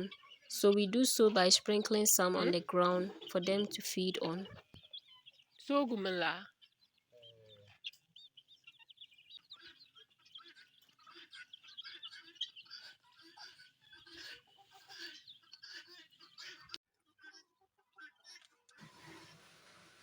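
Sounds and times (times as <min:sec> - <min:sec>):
chickens chirping and clucking: 0:00.0 - 0:16.8.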